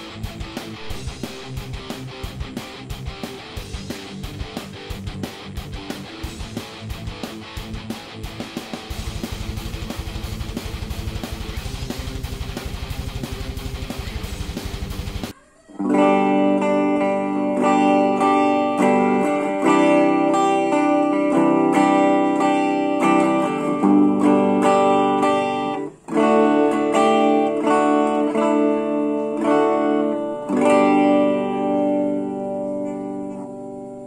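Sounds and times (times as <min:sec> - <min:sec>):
clean electric guitar: 0:00.0 - 0:34.0.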